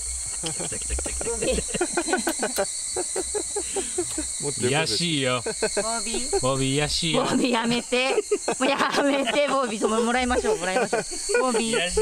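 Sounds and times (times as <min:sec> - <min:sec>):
insects chirring: 0:00.0 - 0:12.0
people talking quietly: 0:00.4 - 0:12.0.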